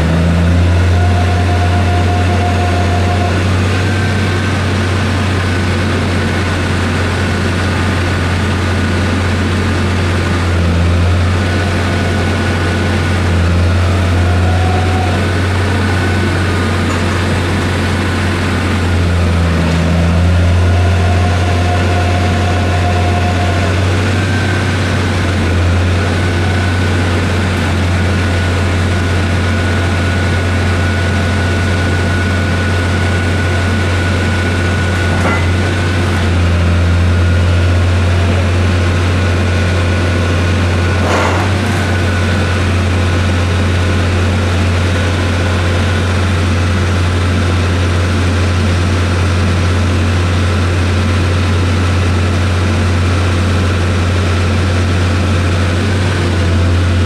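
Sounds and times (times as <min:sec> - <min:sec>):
heavy machinery humming: 0:00.0 - 0:57.0.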